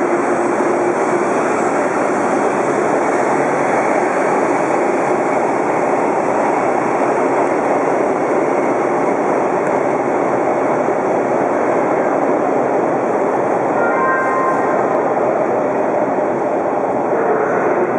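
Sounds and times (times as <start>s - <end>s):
subway train wheels rumbling: 0.0s - 17.9s.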